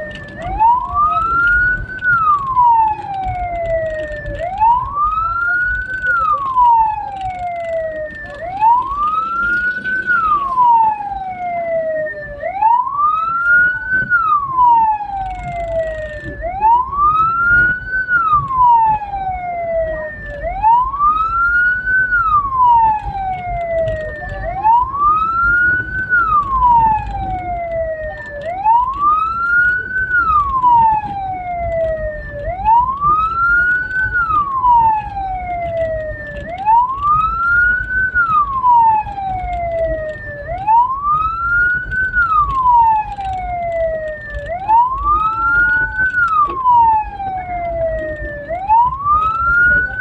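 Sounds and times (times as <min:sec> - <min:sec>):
engine and road rumble: 0:00.0 - 0:50.0
siren wailing: 0:00.0 - 0:50.0.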